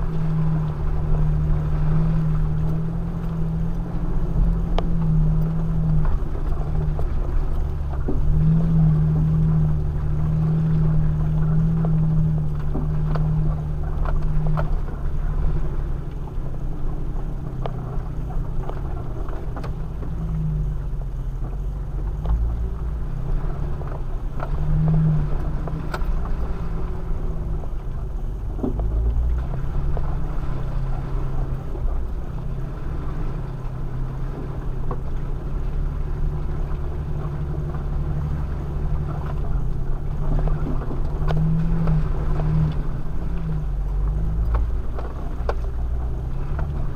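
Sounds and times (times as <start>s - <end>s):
vehicle engine running low: 0.0s - 46.9s
vehicle knocks and rattles: 0.0s - 46.9s.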